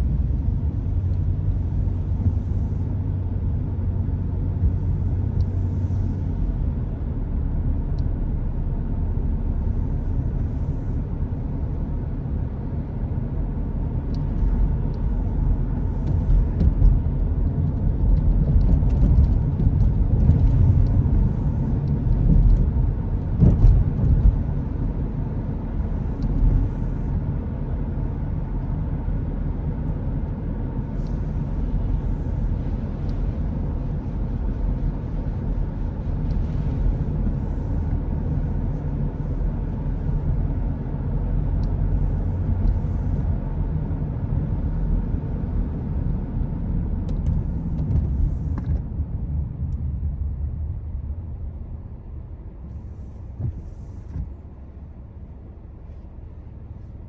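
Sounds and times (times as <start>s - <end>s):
car driving on road: 0.0s - 57.0s.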